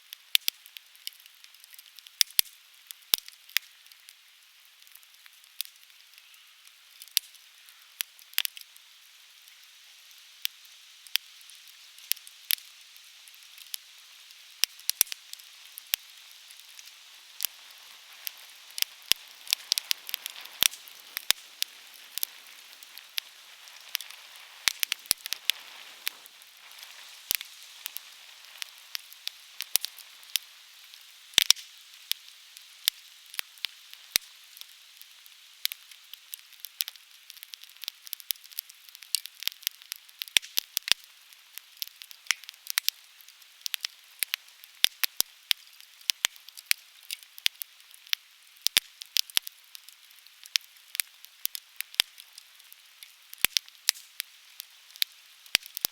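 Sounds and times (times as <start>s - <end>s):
faint steady hiss: 0.0s - 55.9s
firewood crackling and popping: 0.0s - 55.9s.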